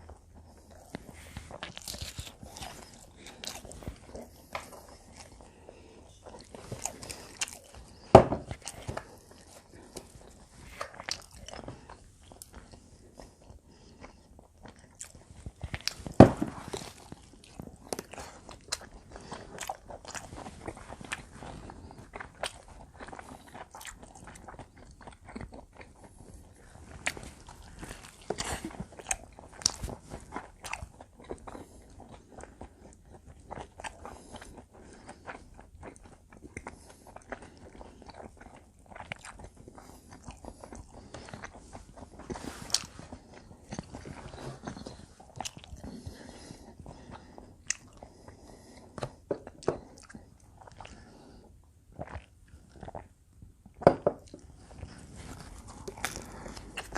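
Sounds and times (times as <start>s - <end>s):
person chewing food: 0.0s - 56.9s.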